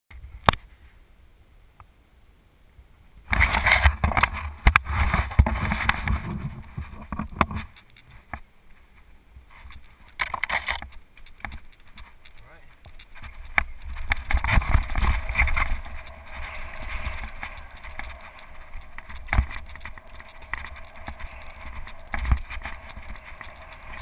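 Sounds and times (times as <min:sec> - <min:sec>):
bike tyres on dirt trail: 0:03.2 - 0:24.0.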